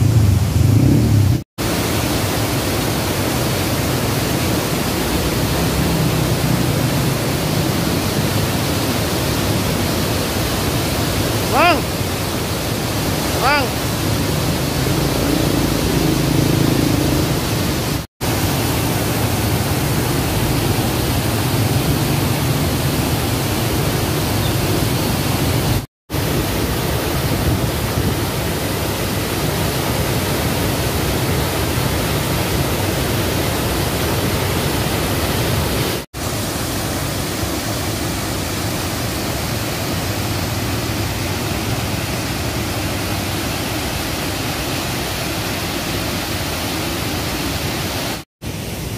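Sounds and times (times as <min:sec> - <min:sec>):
water rushing over a weir: 0:00.0 - 0:48.9.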